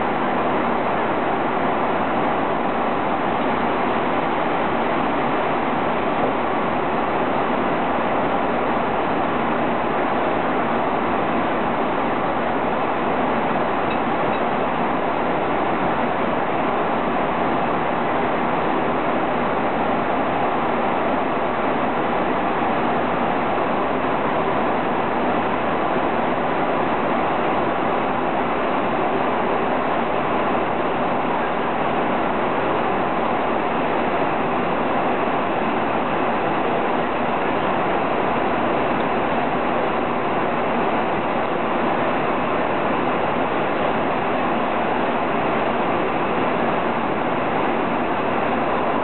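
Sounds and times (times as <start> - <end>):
jet airliner cabin noise: 0.0 - 49.0.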